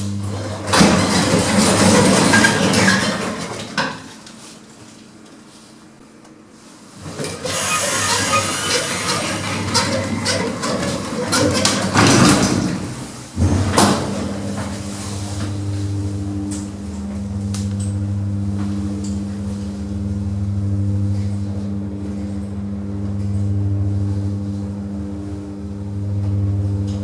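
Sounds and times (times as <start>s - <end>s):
steady low hum: 0.0s - 3.5s, 7.7s - 27.0s.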